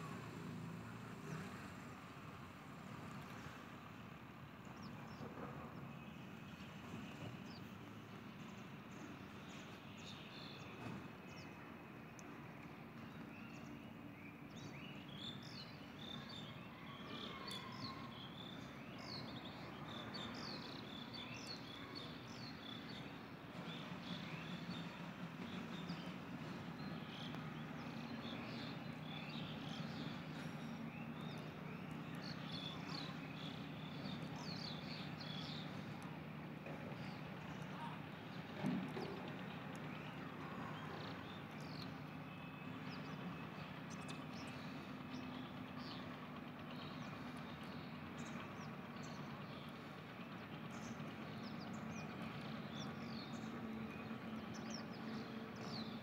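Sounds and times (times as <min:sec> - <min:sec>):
small birds chirping: 0:03.0 - 0:56.0.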